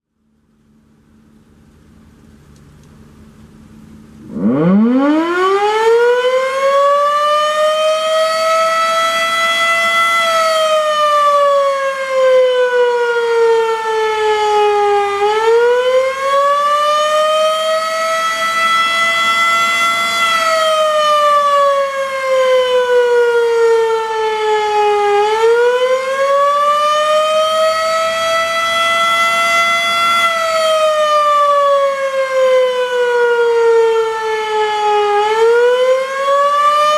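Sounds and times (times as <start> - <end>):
siren wailing: 4.2 - 36.9.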